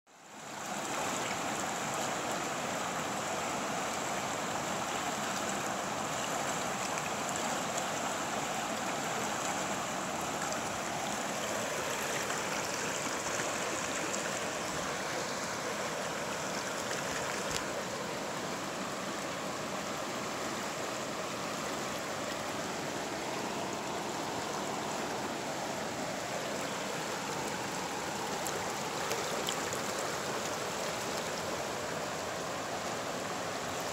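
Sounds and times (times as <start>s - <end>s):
river rushing over rapids: 0.1s - 33.9s.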